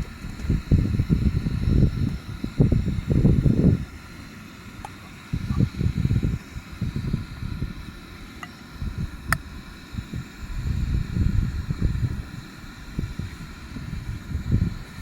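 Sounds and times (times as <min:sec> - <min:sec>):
wind buffeting microphone: 0:00.0 - 0:04.0, 0:04.8 - 0:15.0.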